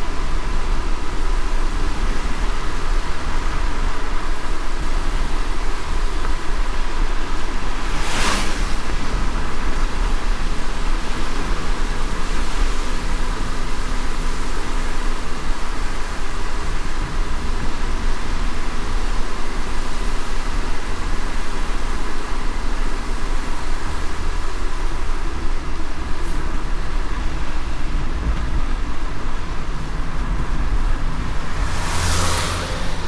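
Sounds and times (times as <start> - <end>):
light rain hiss: 0.0 - 33.0
road noise inside car: 0.0 - 33.0.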